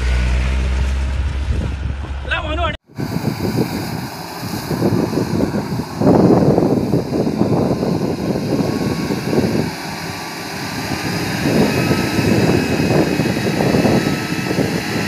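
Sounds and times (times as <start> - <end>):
engine pulling under load: 0.0 - 2.2, 2.9 - 15.0.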